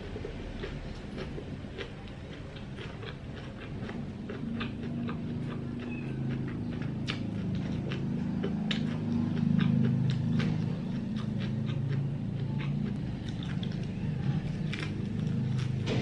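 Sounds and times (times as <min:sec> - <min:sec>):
low pulsing hum: 0:00.0 - 0:16.0
wet chewing mouth clicks: 0:00.1 - 0:15.8.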